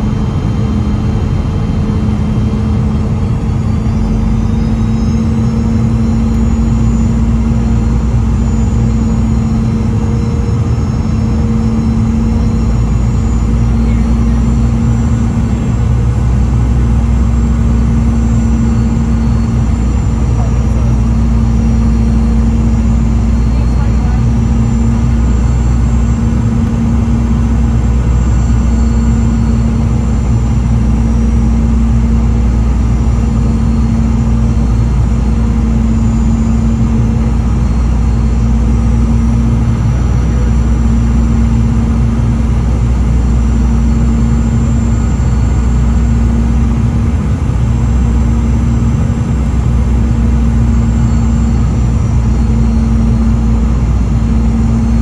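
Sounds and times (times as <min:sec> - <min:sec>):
jet engine drone in cabin: 0:00.0 - 0:55.0
steady hum tone: 0:00.0 - 0:55.0.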